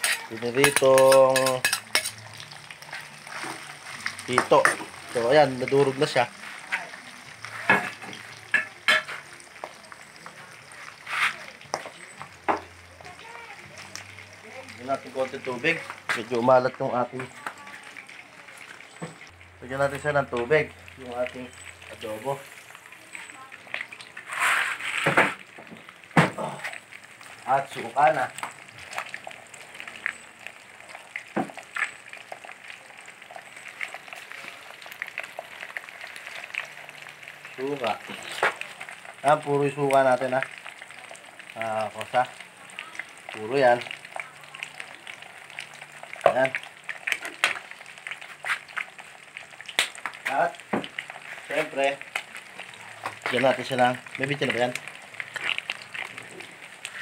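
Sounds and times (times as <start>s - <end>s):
food sizzling in woks: 0.0s - 57.0s.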